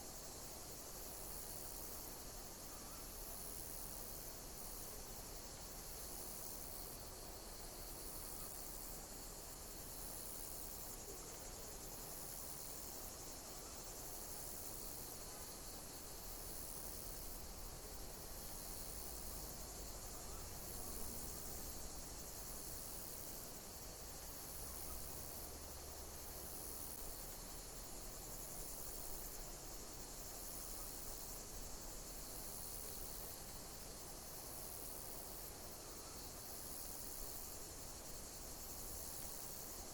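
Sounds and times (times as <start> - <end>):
insects chirping in chorus: 0.0 - 39.9.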